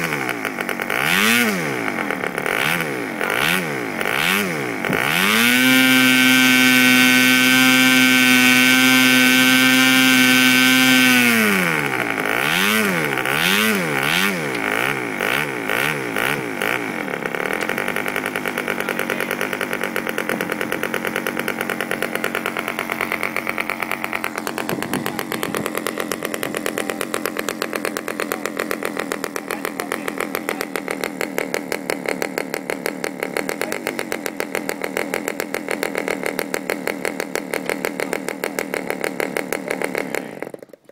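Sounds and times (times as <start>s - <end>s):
model aircraft engine running: 0.0s - 40.9s.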